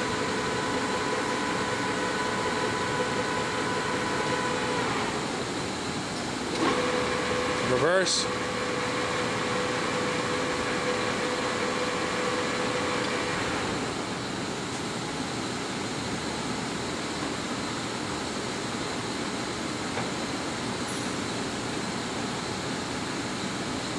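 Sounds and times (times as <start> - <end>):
lathe machine hum: 0.0 - 23.9
steady machine whine: 0.0 - 23.9.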